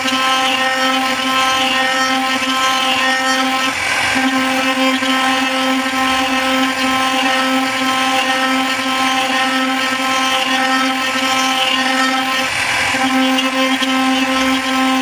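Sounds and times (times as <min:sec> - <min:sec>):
power tool motor humming: 0:00.0 - 0:15.0.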